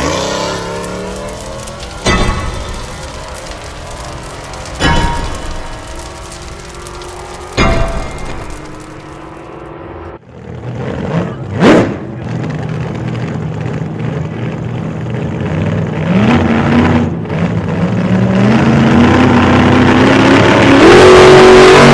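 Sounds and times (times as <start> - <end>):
vehicle engine accelerating: 0.0 - 21.9.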